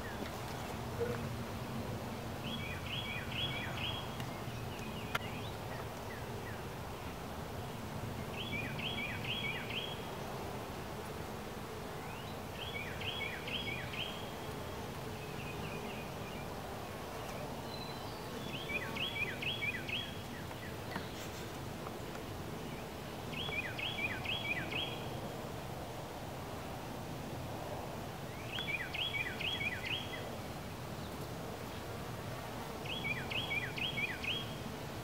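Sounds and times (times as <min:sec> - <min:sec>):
honeybees humming: 0:00.0 - 0:25.4, 0:28.0 - 0:35.0.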